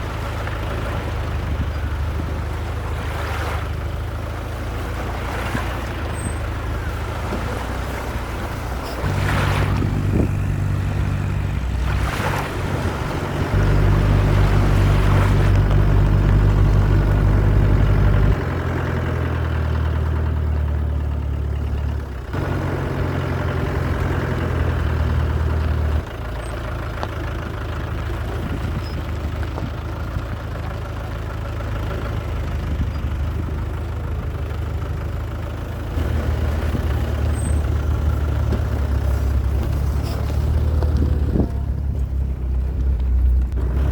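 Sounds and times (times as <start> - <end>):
car engine rumbling: 0.0 - 43.9
road and wind noise: 0.0 - 43.9.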